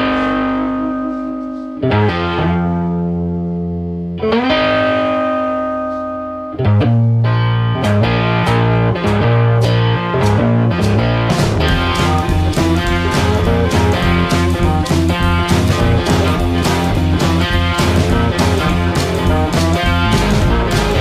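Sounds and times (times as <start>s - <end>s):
electric guitar with effects: 0.0s - 21.0s.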